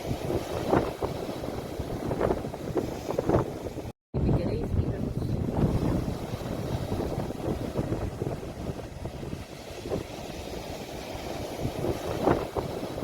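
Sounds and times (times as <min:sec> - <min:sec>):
waves washing on shore: 0:00.0 - 0:13.0
wind rumble on microphone: 0:00.0 - 0:13.0.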